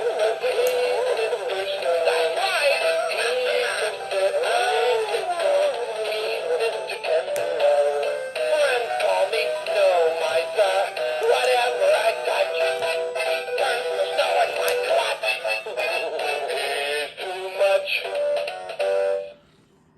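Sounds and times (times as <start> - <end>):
toy speaker playing synthesized song: 0.0 - 19.4.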